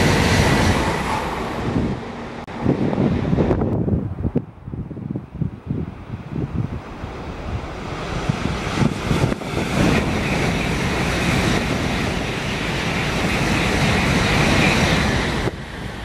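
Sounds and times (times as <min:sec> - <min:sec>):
high-speed train rushing past: 0:00.0 - 0:16.0
wind rumbling on microphone: 0:00.0 - 0:16.0.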